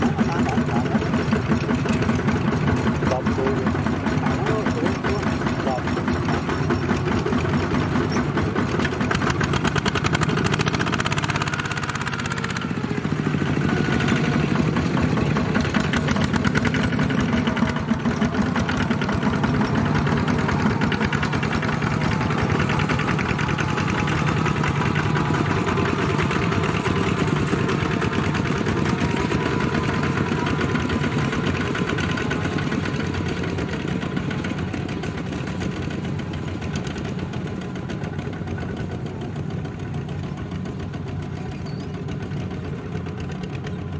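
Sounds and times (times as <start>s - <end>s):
diesel engines chugging: 0.0s - 43.9s.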